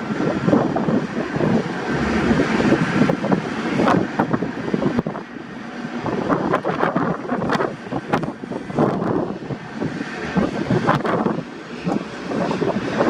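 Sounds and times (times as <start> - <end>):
jet airliner engine noise: 0.0 - 13.0
wind buffeting microphone: 0.0 - 13.0.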